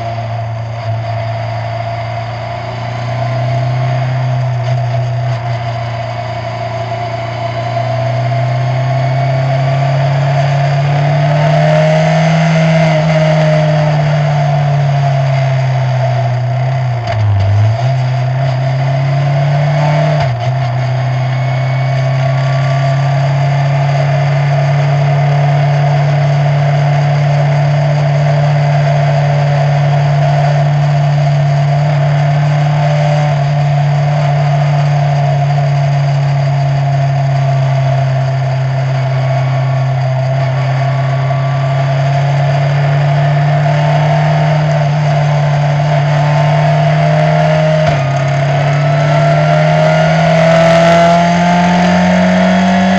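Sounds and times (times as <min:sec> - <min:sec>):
race car engine droning: 0:00.0 - 0:52.9.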